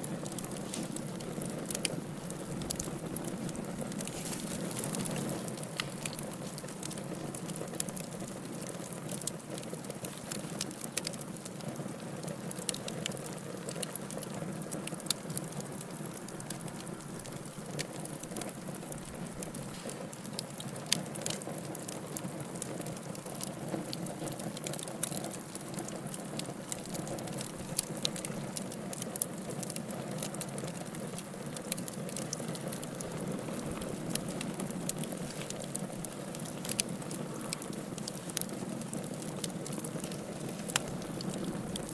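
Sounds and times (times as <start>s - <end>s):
fire crackling and popping: 0.0s - 41.9s
fire flames roaring: 0.0s - 41.9s.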